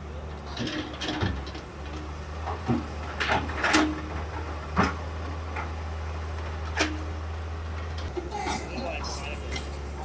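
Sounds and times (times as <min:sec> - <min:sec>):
demolition machinery humming: 0:00.0 - 0:10.0.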